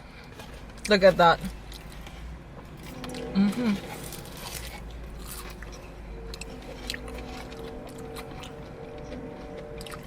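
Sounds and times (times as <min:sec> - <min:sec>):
steady low hum: 0:00.0 - 0:10.0
chewing food with mouth clicks: 0:00.2 - 0:10.0.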